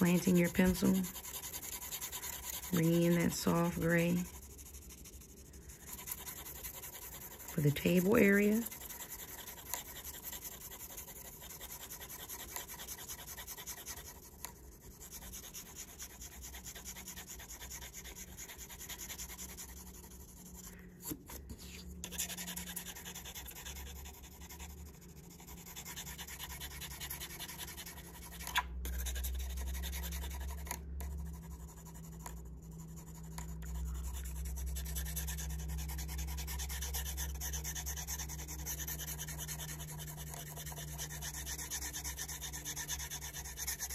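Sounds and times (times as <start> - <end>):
pencil shading on paper: 0.0 - 43.9
steady low hum: 0.0 - 43.9.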